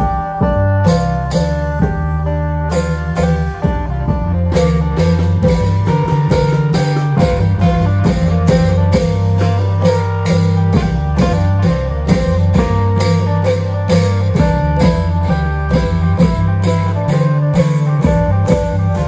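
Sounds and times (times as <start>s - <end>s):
plucked-string melody: 0.0s - 19.0s
steady drum beat: 0.0s - 19.0s.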